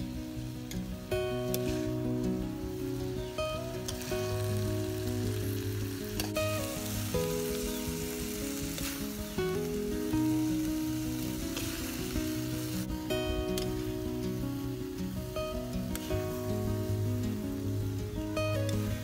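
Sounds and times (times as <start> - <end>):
background music: 0.0 - 19.0
food sizzling in a wok: 0.0 - 19.0.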